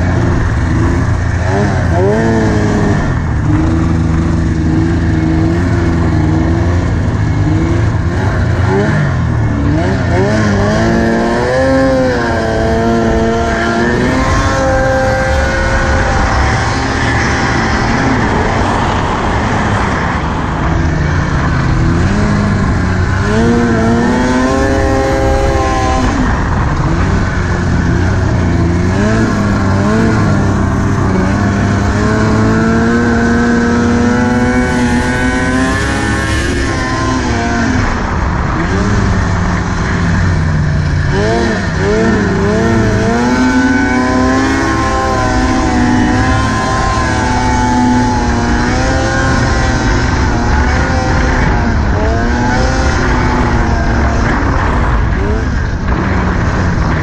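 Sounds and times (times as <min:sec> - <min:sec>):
snowmobile engine revving: 0:00.0 - 0:57.0
steady rushing noise: 0:00.0 - 0:57.0.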